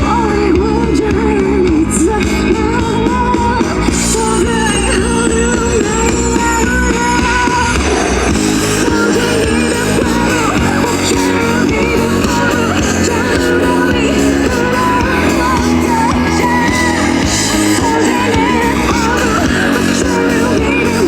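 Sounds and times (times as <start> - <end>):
live rock band: 0.0 - 21.0
person singing: 0.0 - 21.0.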